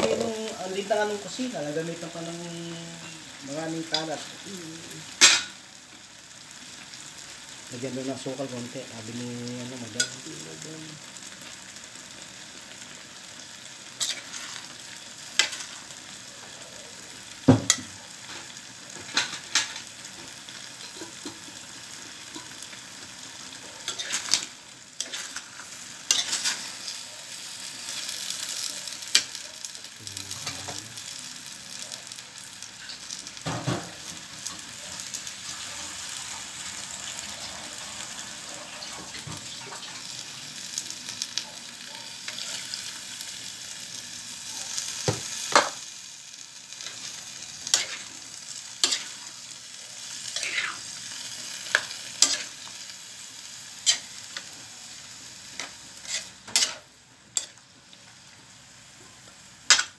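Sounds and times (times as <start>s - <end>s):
vegetables sizzling in a wok: 0.0s - 59.9s.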